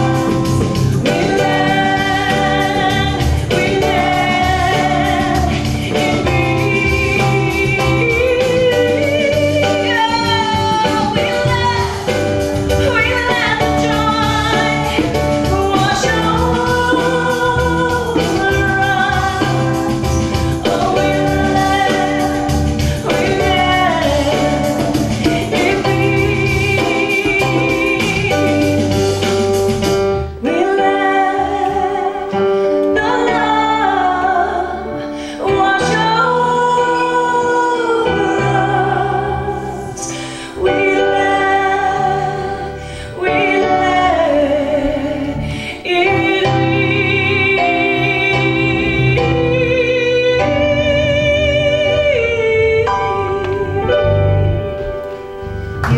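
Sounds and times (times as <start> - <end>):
woman singing: 0.0 - 29.4, 30.2 - 54.8
electronic keyboard chords: 0.0 - 55.9.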